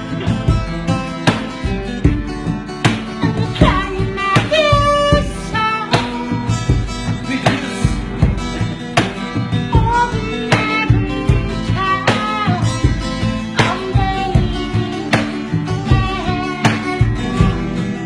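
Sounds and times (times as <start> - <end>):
drum beat: 0.0 - 18.0
plucked guitar: 0.0 - 18.0.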